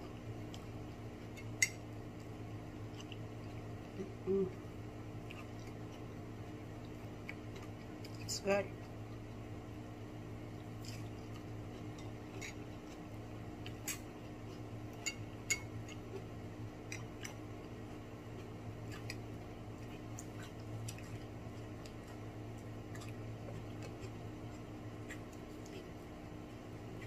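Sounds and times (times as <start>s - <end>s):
person chewing food: 0.0s - 9.5s, 10.4s - 27.0s
steady low hum: 0.0s - 27.0s.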